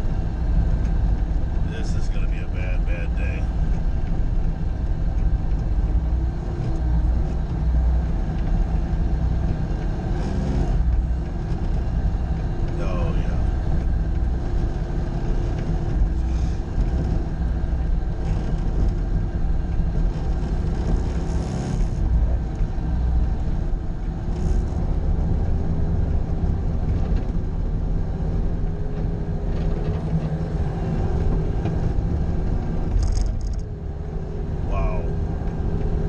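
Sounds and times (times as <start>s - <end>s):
loader engine running steadily: 0.0s - 36.0s.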